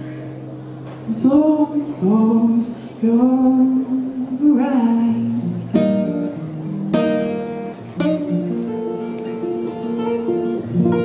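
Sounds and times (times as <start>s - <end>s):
acoustic guitar strummed chords: 0.0s - 11.0s.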